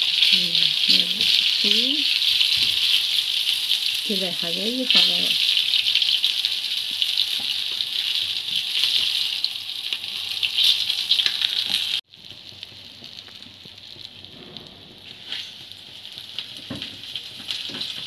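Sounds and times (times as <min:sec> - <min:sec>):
fish frying in hot oil: 0:00.0 - 0:14.2, 0:15.1 - 0:18.0.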